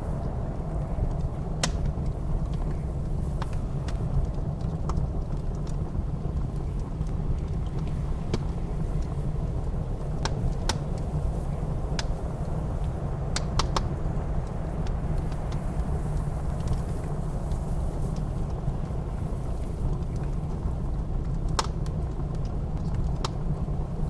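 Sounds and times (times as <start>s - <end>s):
low rumble of blizzard wind: 0.0s - 24.0s
wood fire crackling: 0.0s - 24.0s.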